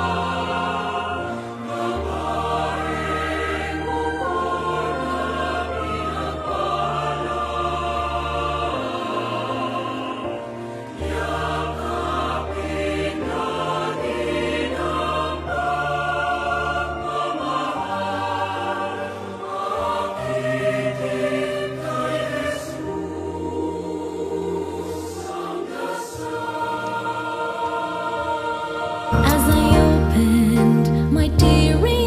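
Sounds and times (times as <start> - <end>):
choir singing slow notes: 0.0 - 31.5.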